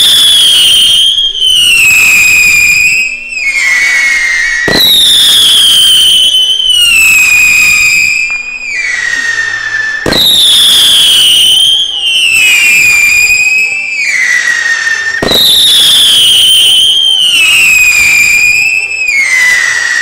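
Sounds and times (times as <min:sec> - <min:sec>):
whistling fireworks: 0:00.0 - 0:20.0.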